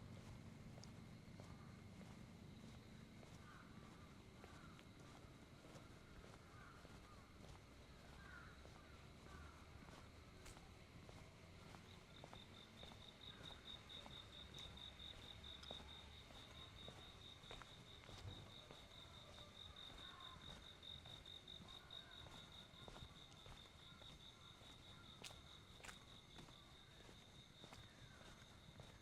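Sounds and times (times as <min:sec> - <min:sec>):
cricket chirping: 0:00.0 - 0:29.0.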